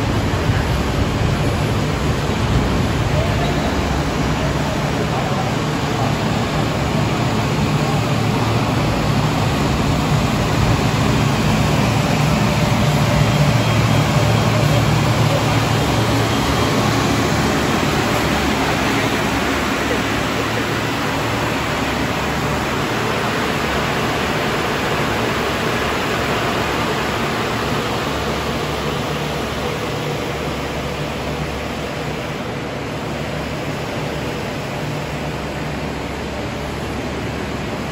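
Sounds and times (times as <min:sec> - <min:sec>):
cooling blowers rushing air: 0:00.0 - 0:37.9.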